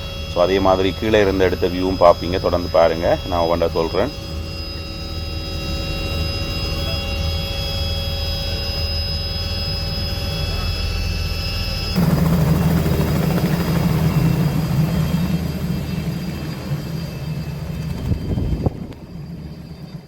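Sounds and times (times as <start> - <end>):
helicopter rotor beat: 0.0 - 20.0
helicopter turbine whine: 0.0 - 20.0.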